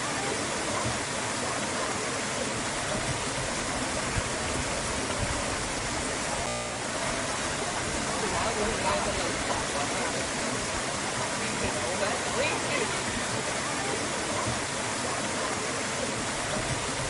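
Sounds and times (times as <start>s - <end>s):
stream water rushing over boulders: 0.0s - 17.0s.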